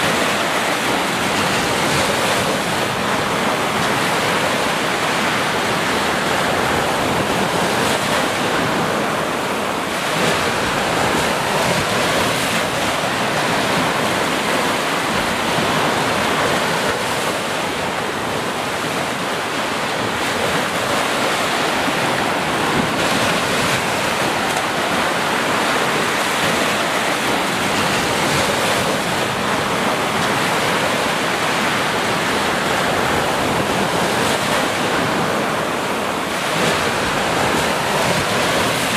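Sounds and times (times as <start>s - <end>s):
waves washing onto sandy shore: 0.0s - 38.9s.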